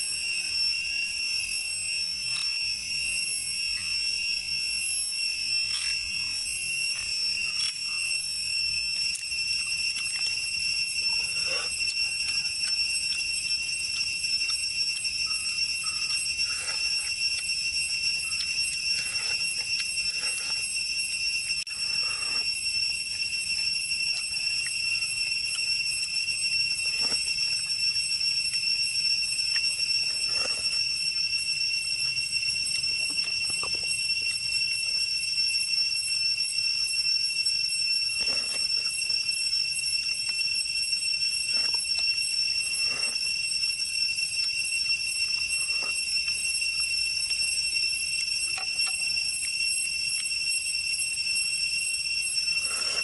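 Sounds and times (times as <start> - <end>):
high-pitched ringing drone: 0.0 - 53.0.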